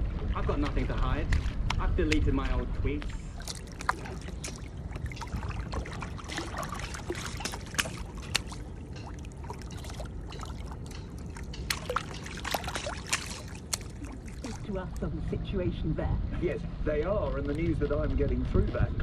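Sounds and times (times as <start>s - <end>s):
water lapping against a hull: 0.0s - 15.4s
steady low rumble: 0.0s - 19.0s.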